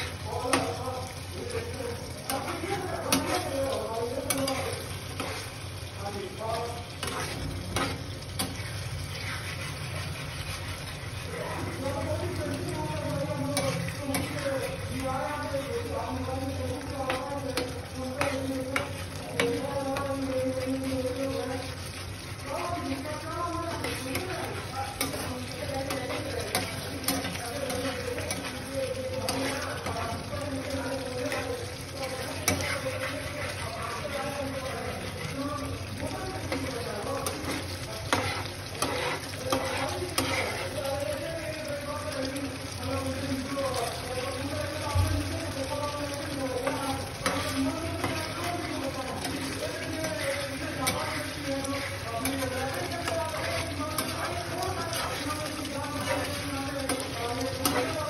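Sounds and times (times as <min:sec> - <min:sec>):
metal spatula scraping pan: 0:00.0 - 0:05.8, 0:06.4 - 0:41.2, 0:46.3 - 0:58.0
gravy sizzling: 0:00.0 - 0:58.0.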